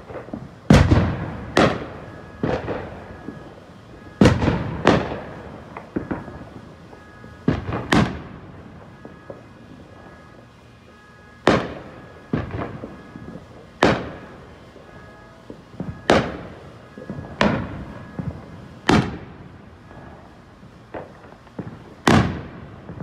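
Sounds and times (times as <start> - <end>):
fireworks bangs echoing: 0.0 - 23.0
fireworks pops and crackles: 0.0 - 23.0.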